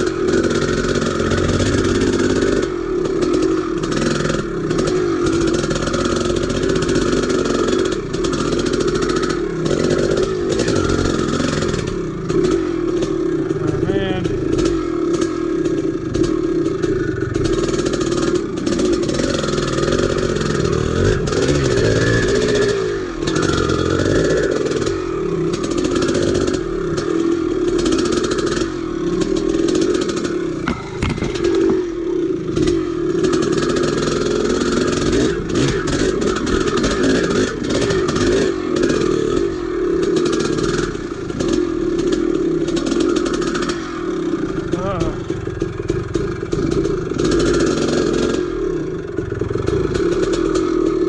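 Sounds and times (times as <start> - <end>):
bike knocks and rattles: 0.0 - 43.8
two-stroke motorcycle engine revving: 0.0 - 51.0.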